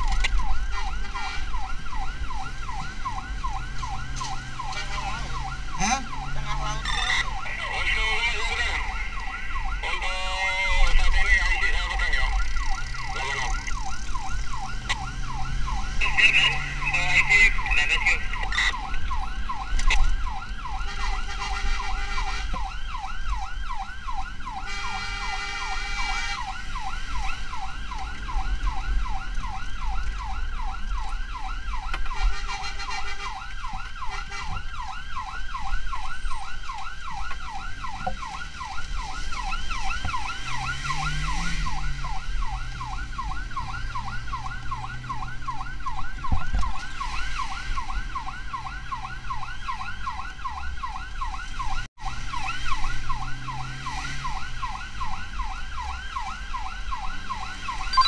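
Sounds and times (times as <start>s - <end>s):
siren yelping: 0.0s - 58.0s
higher siren tone: 0.5s - 23.9s, 33.2s - 58.0s.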